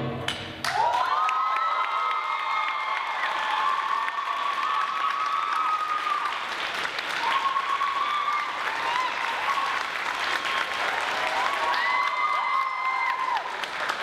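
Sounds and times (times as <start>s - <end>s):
audience applauding and cheering: 0.3s - 14.0s.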